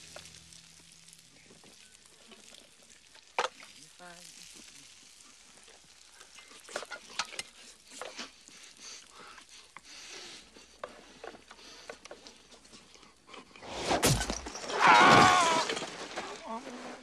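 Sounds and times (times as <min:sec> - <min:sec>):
faint sizzle: 0:00.0 - 0:13.9.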